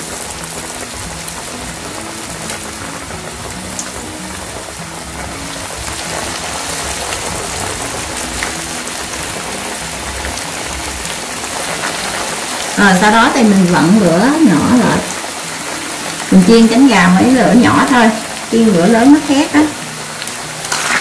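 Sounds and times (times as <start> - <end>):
chicken frying in oil: 0.0 - 21.0
soft background music: 0.0 - 21.0.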